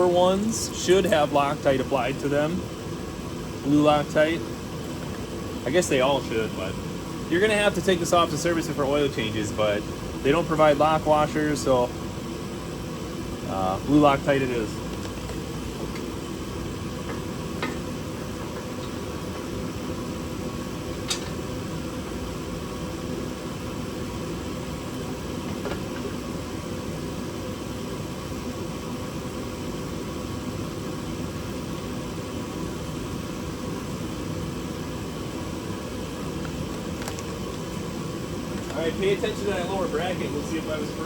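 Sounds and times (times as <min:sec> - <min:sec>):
space heater humming: 0:00.0 - 0:41.0.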